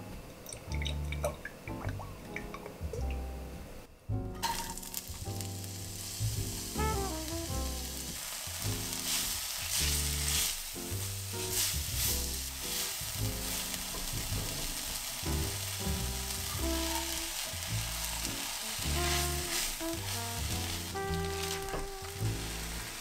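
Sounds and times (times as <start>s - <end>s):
soft background music: 0.0s - 23.0s
onion sizzling in hot oil: 4.4s - 23.0s.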